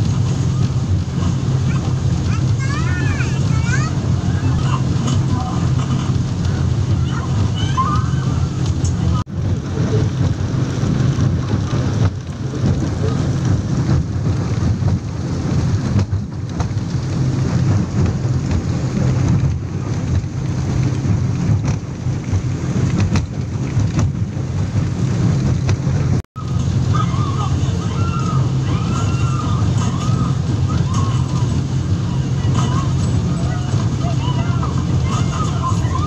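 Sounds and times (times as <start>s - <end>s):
speedboat engines droning: 0.0s - 36.0s.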